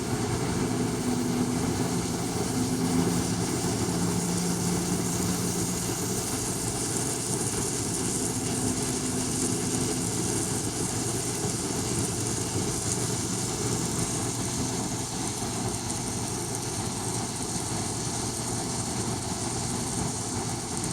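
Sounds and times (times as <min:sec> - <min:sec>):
model train running hum: 0:00.0 - 0:20.9.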